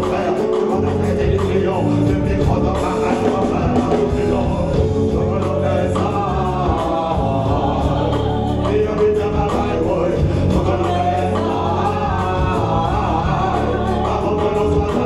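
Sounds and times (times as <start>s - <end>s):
man singing into a microphone: 0.0s - 7.1s, 8.6s - 15.0s
reggae band playing: 0.0s - 15.0s.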